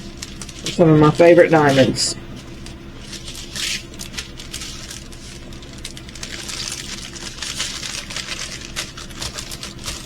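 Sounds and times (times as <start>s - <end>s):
plastic bags crinkling: 0.0s - 10.0s
steady low hum: 0.0s - 10.0s.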